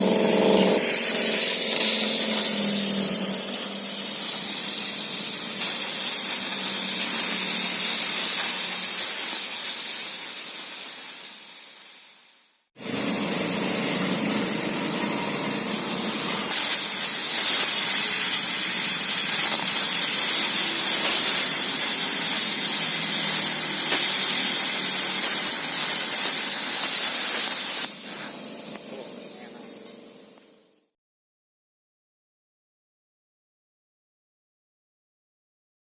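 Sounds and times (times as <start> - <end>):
plasma cutter hissing: 0.0 - 30.9.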